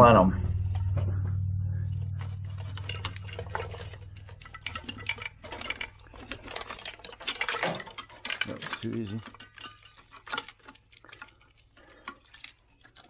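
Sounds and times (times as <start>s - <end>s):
low steady hum: 0.0s - 13.0s
metal tools clicking and tapping: 2.2s - 13.0s.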